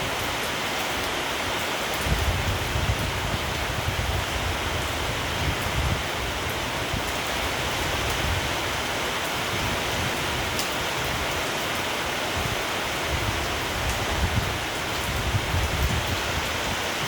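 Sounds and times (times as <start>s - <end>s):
steady rain hiss: 0.0s - 17.0s
wind rumble: 2.0s - 17.0s.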